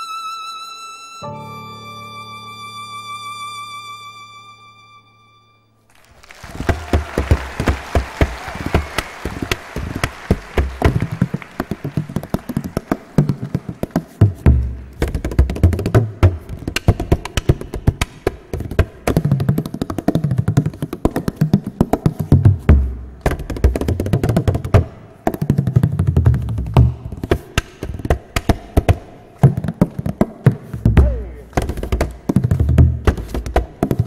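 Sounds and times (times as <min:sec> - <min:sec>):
frame drum drumming: 0:06.5 - 0:34.0.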